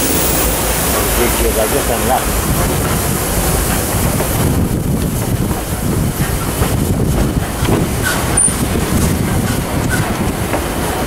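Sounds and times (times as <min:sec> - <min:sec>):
train wheels rumbling on rails: 0:00.0 - 0:11.0
wind buffeting microphone: 0:00.0 - 0:11.0.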